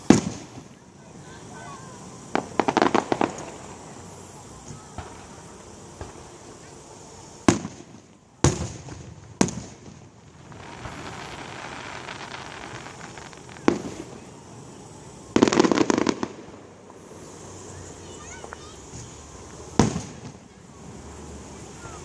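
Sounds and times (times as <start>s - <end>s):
firework shell bursts: 0.0s - 22.0s
fireworks crackling: 0.0s - 22.0s.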